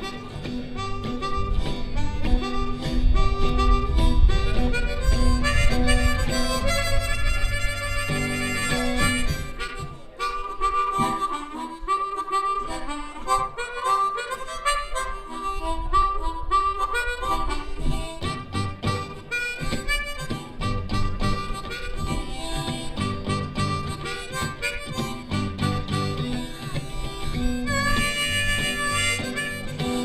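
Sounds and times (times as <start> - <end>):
blues harmonica: 0.0 - 30.0
live band playing: 0.0 - 30.0.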